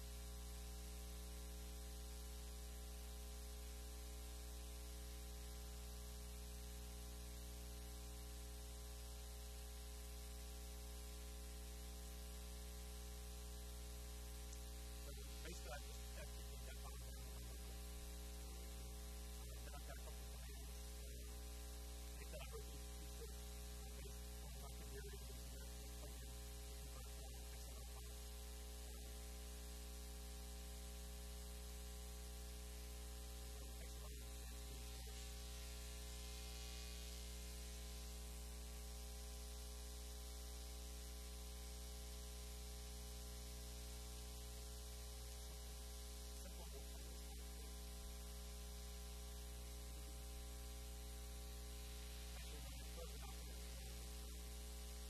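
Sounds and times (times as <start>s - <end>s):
constant hiss: 0.0s - 55.0s
electrical mains hum: 0.0s - 55.0s.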